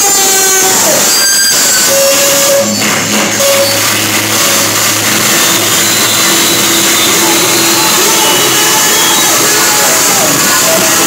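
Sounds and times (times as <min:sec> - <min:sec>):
distorted live rock music: 0:00.0 - 0:11.0.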